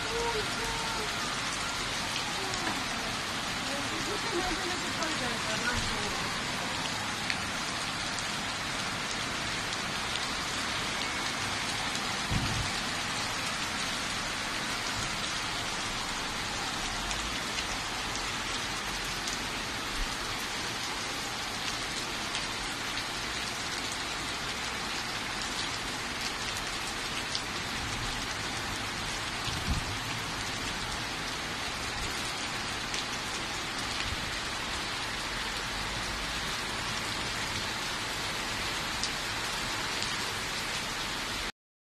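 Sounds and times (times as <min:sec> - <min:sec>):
heavy rain pouring: 0:00.0 - 0:41.5.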